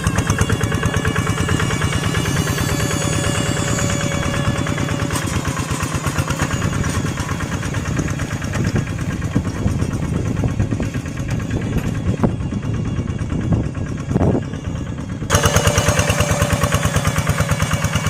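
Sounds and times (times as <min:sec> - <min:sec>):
hand tractor engine running: 0:00.0 - 0:18.0.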